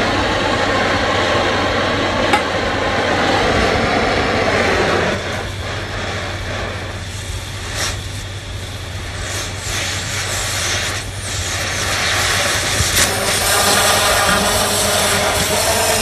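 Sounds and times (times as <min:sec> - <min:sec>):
cutting torch flame hissing: 0:00.0 - 0:16.0.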